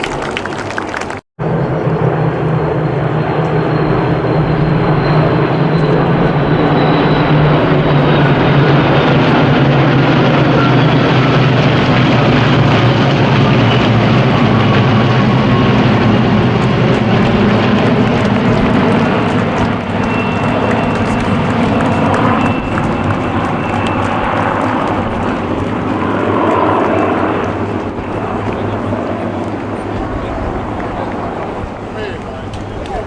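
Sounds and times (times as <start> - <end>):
aircraft piston engines droning: 0.0 - 33.0.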